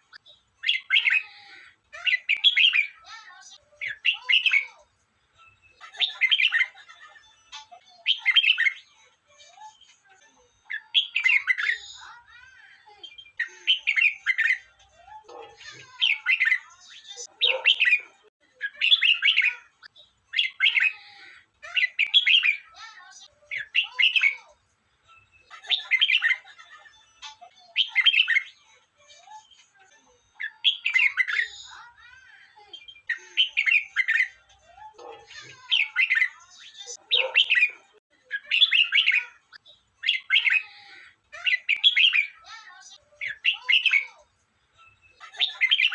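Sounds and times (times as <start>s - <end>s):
bird singing song phrases: 0.0s - 4.8s, 5.4s - 6.8s, 7.9s - 9.0s, 10.6s - 24.5s, 25.2s - 26.5s, 27.1s - 28.6s, 30.3s - 44.2s, 44.8s - 45.9s.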